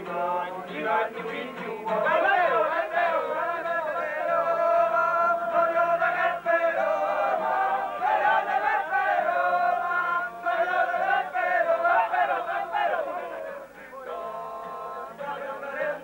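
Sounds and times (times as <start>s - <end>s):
group singing held notes: 0.0s - 16.0s.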